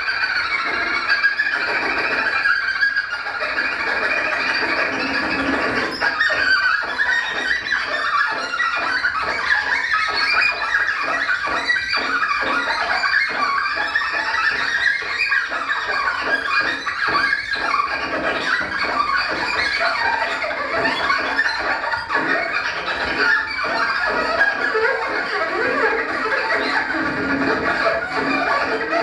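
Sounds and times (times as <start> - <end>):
cello rapid bow strokes: 0.0 - 29.0.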